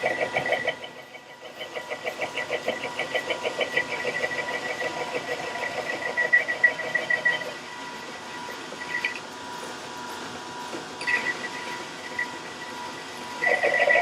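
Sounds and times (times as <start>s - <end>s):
lathe cutting steel: 0.0s - 14.0s
lathe high-pitched whine: 0.0s - 14.0s.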